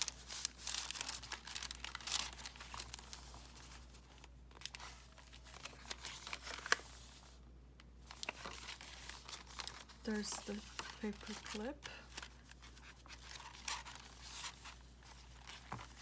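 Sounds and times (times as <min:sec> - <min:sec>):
paper rustling and crinkling: 0:00.0 - 0:07.4, 0:08.0 - 0:16.0.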